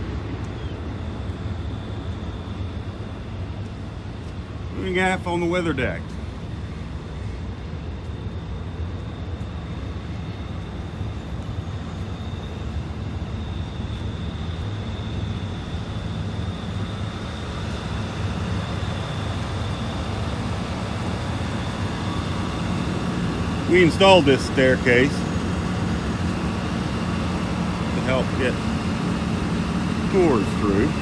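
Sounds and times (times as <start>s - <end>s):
generator engine humming: 0.0s - 31.0s
thin high whine: 0.0s - 31.0s.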